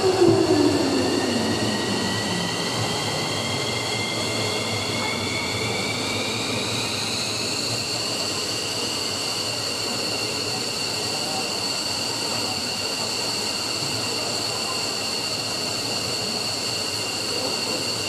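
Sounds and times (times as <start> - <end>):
jet engine roar: 0.0 - 18.0
jet engine turbine whine: 0.0 - 18.0.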